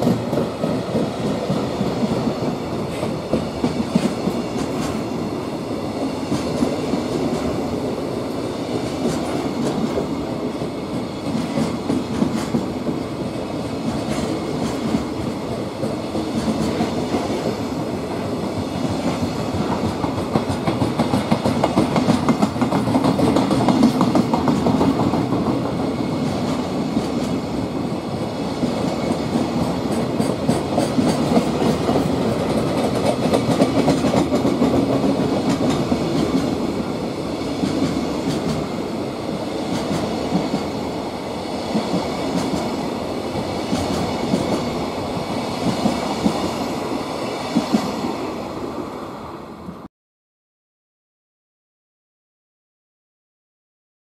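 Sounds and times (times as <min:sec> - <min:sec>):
train wheels rumbling on rails: 0:00.0 - 0:49.8.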